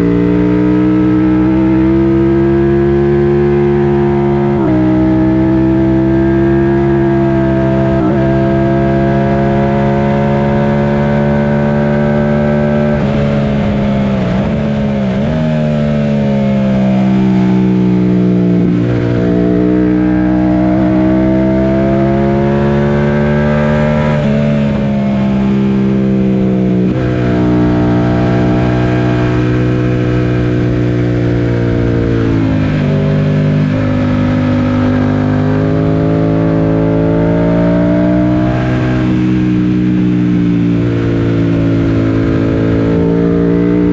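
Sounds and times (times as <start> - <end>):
motorcycle engine accelerating hard: 0.0 - 43.9.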